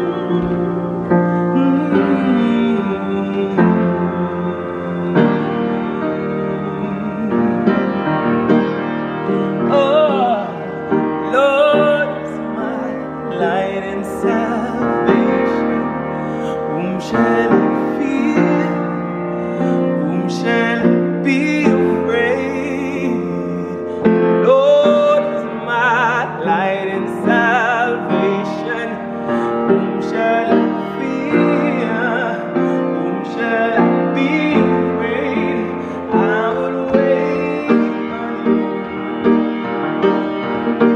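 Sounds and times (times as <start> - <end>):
man singing: 0.0 - 8.6, 9.2 - 39.4
upright piano playing: 0.0 - 40.9.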